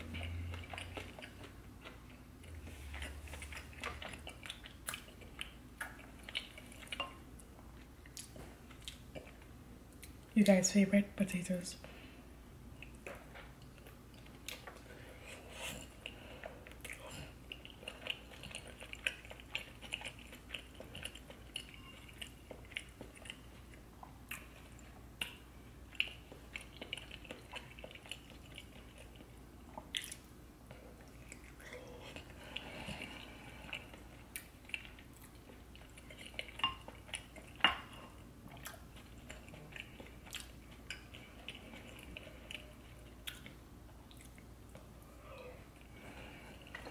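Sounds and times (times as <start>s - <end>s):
person chewing and smacking: 0.0s - 10.3s, 12.7s - 46.9s.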